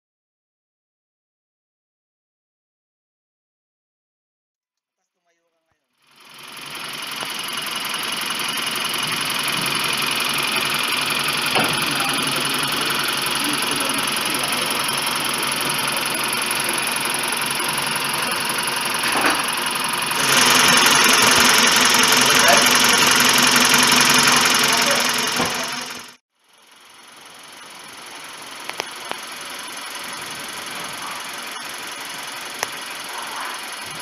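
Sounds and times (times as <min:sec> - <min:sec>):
car engine running: 0:06.1 - 0:34.0.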